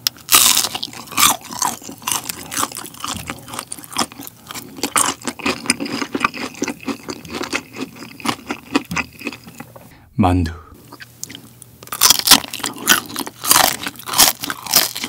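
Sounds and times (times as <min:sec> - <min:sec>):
crunchy chewing: 0:00.1 - 0:09.9, 0:10.9 - 0:15.0.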